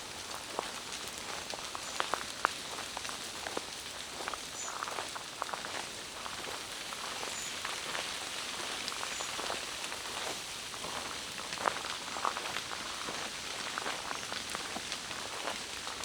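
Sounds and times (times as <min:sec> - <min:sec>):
rain falling through trees: 0:00.0 - 0:16.0.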